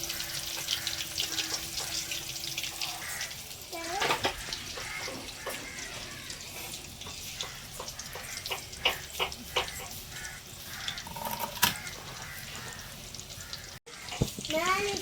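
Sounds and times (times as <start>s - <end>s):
roe sizzling in hot oil: 0.0s - 15.0s.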